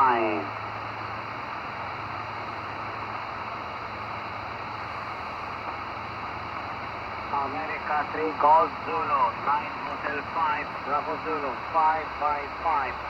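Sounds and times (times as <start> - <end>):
shortwave radio static: 0.0 - 0.6, 2.2 - 13.0.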